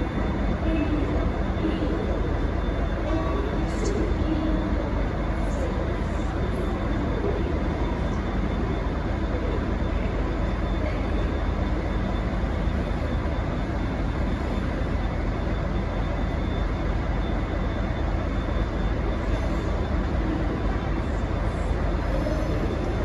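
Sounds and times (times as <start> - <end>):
diesel locomotive engine running: 0.0 - 23.0
faint steady whining tones: 0.0 - 23.0.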